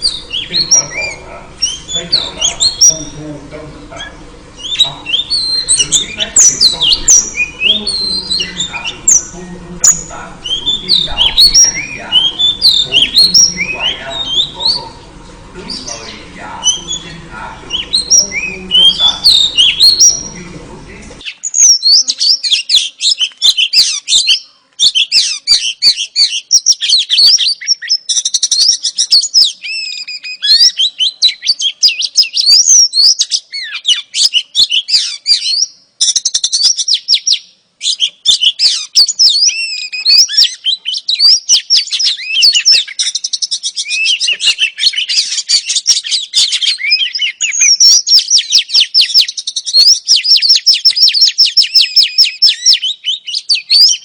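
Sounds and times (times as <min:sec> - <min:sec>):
magpie-robin song: 0:00.0 - 0:54.0.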